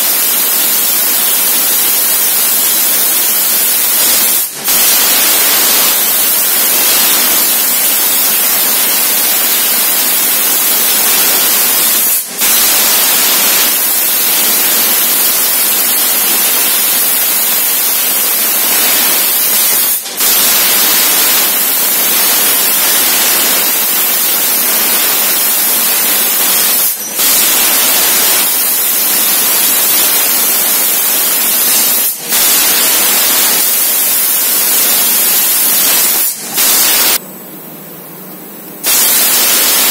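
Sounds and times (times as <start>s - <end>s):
laser cutter jet hissing: 0.0s - 37.2s, 38.8s - 39.9s.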